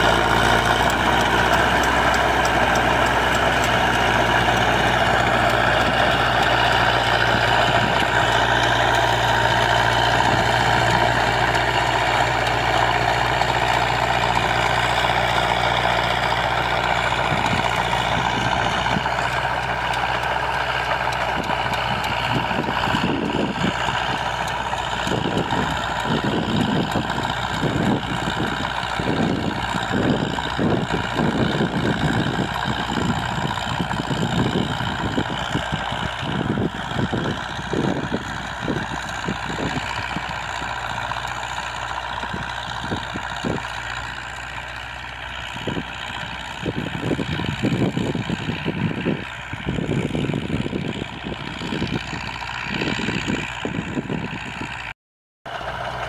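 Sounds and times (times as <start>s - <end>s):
rotary tiller rumbling through soil: 0.0s - 54.9s, 55.5s - 56.0s
tractor engine running under load: 0.0s - 56.0s.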